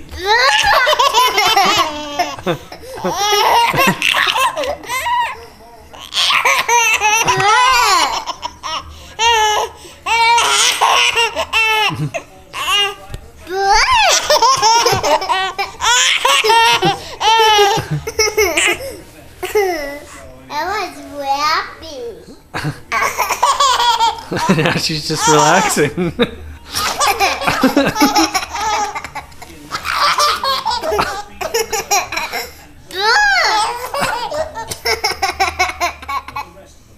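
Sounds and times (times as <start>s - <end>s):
baby laughing: 0.2s - 5.4s, 6.0s - 20.0s, 22.9s - 25.9s, 26.7s - 36.5s.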